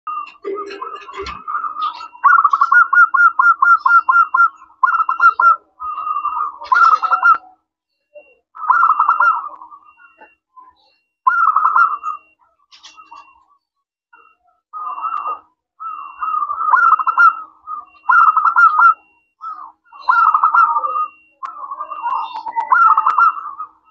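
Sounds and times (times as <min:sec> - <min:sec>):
dove cooing: 0:00.1 - 0:07.5, 0:08.6 - 0:10.3, 0:11.3 - 0:13.4, 0:14.8 - 0:23.9.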